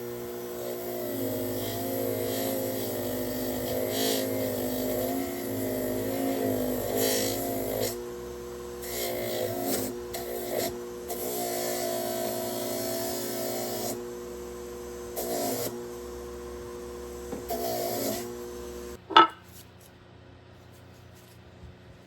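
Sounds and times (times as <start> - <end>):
small power tool motor buzzing: 0.0 - 19.0.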